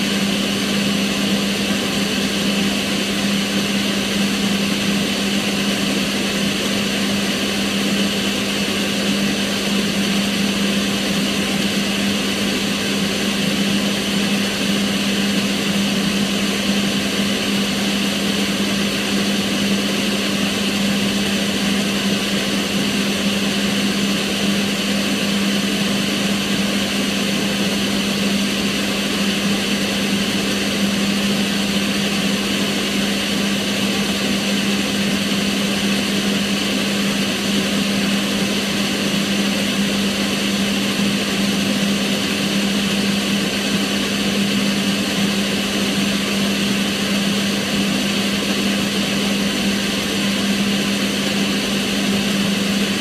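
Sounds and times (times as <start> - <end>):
extractor fan running: 0.0 - 53.0.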